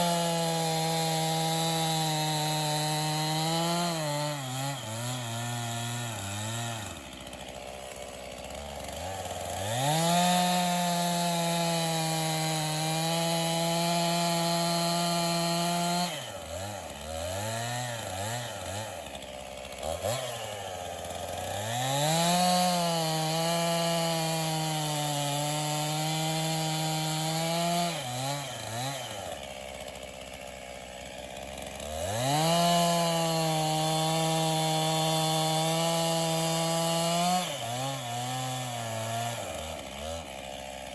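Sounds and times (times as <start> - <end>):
chainsaw cutting log: 0.0 - 40.9
chainsaw throttle blips: 0.0 - 40.9.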